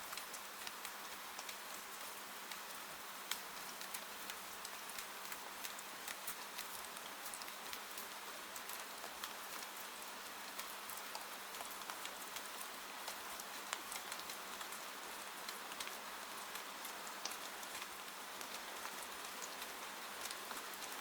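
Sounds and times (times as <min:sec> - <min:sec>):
steady rain hiss: 0:00.0 - 0:21.0
raindrops ticking on surface: 0:00.1 - 0:21.0.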